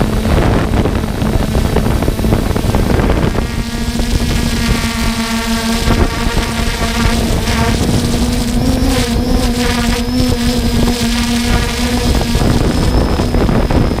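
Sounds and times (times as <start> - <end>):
drone motors humming: 0.0 - 14.0
wind rumbling on microphone: 0.0 - 14.0.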